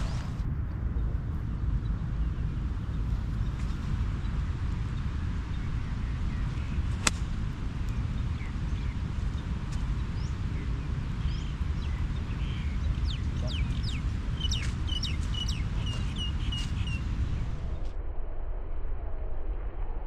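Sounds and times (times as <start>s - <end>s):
birds chirping: 0.0s - 17.8s
steady low rumble: 0.0s - 20.0s.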